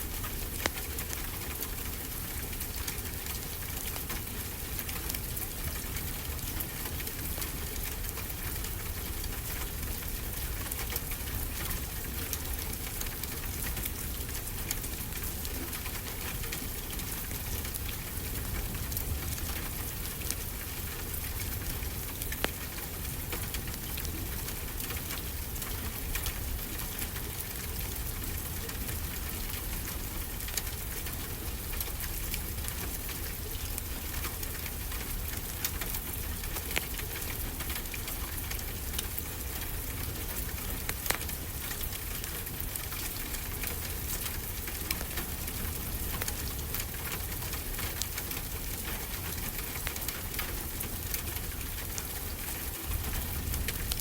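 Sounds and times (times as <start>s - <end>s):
steady rain: 0.0s - 54.0s
fireplace fire crackling: 0.1s - 54.0s.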